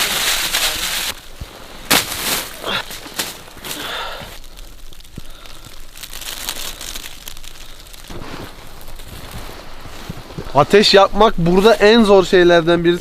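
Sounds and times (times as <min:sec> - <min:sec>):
campfire crinkling and crackling: 0:00.0 - 0:13.0.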